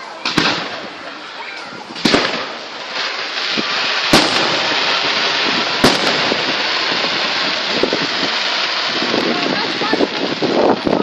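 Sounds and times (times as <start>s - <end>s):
firework bangs: 0.0s - 11.0s
quick firework cracks: 0.0s - 11.0s
steady crackling hiss: 0.0s - 11.0s.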